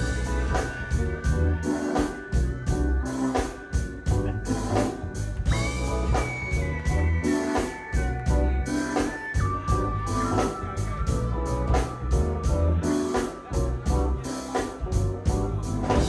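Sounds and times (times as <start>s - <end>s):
heavy bass: 0.0s - 16.0s
organ: 0.0s - 16.0s.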